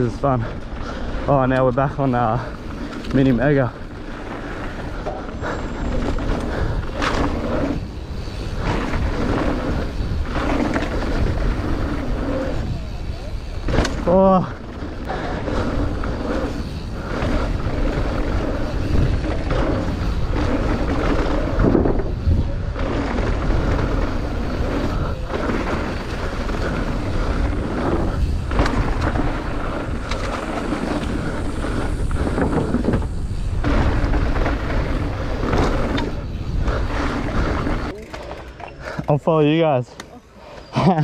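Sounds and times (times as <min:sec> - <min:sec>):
wind rushing over microphone: 0:00.0 - 0:37.9
bike frame rattling: 0:00.0 - 0:40.0
bike tyres rolling on dirt: 0:00.0 - 0:41.0.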